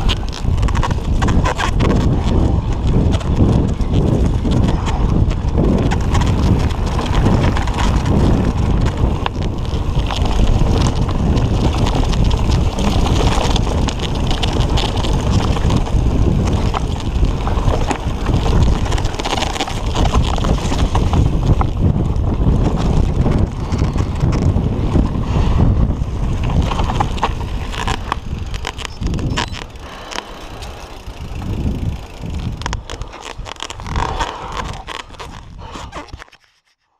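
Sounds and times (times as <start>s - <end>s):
bike knocks and rattles: 0.0s - 36.2s
tyre rumble on dirt: 0.0s - 36.2s
wind buffeting microphone: 0.0s - 36.2s.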